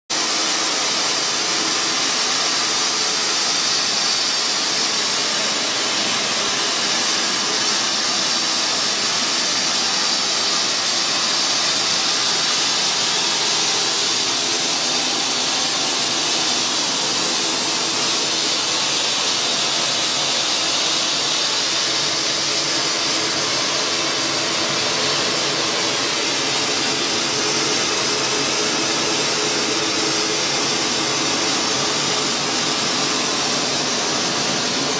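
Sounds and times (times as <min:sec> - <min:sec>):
flour mill machinery whirring: 0:00.1 - 0:34.9.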